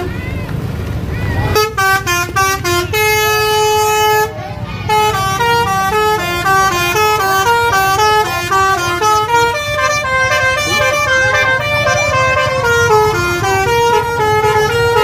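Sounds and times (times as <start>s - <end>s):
low engine rumble: 0.0s - 15.0s
musical bus horn playing tune: 1.5s - 15.0s.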